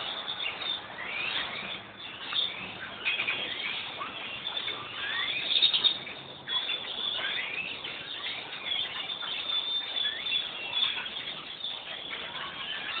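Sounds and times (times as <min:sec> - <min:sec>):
flock of small birds chirping: 0:00.0 - 0:13.0.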